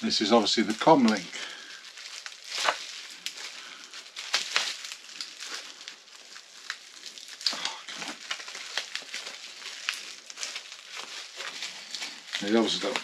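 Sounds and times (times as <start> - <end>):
bubble wrap crackling: 0.0 - 13.0.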